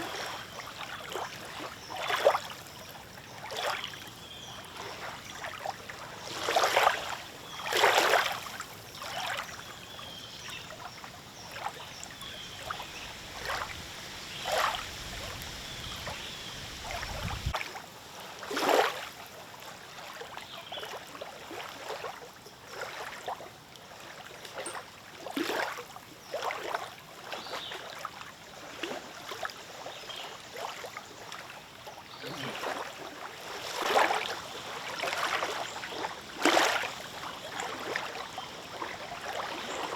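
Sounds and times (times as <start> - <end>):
lake waves lapping and splashing: 0.0 - 39.9.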